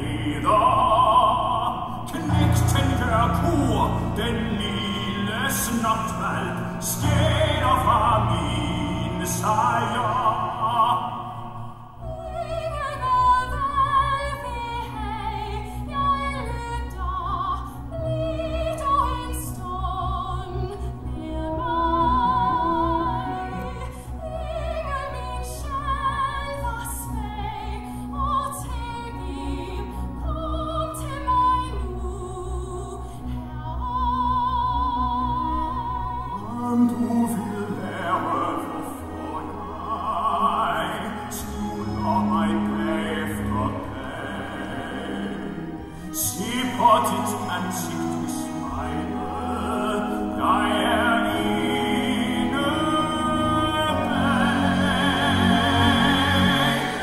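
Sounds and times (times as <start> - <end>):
low orchestral accompaniment: 0.0 - 57.0
operatic singing with vibrato: 0.0 - 57.0.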